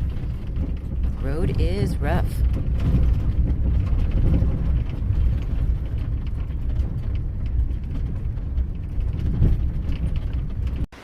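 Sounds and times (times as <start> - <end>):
rattles and knocks: 0.0 - 11.0
vehicle rumbling on bumpy road: 0.0 - 11.0.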